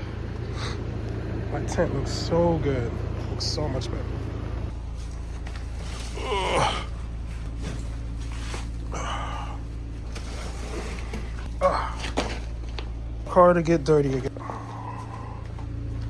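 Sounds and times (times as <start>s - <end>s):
car engine hum: 0.0s - 16.0s.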